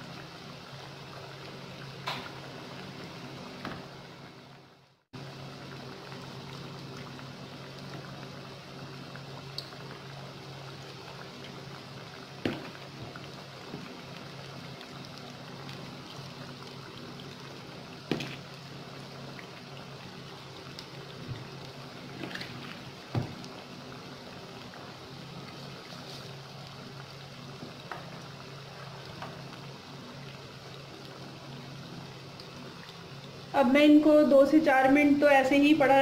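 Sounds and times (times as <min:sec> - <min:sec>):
oil sizzling and bubbling: 0:00.0 - 0:36.0.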